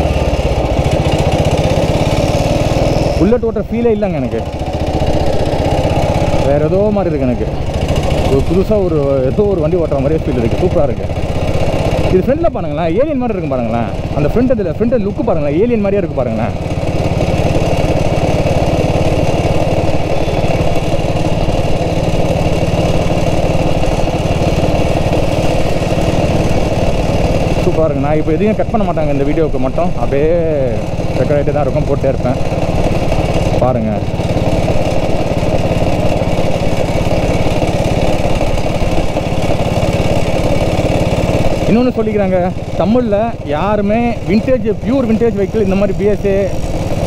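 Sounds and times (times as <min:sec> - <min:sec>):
motorcycle engine running steadily: 0:00.0 - 0:47.0.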